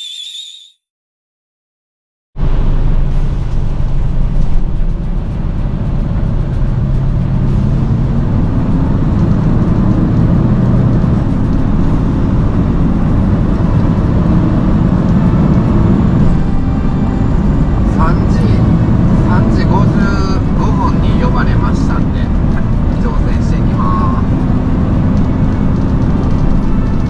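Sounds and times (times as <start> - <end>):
truck diesel engine running: 2.4 - 27.0.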